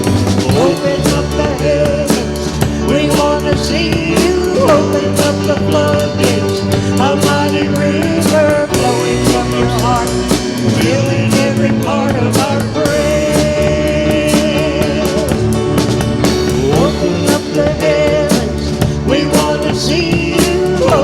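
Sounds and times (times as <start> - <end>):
drum kit beat: 0.0 - 21.0
worship band playing: 0.0 - 21.0.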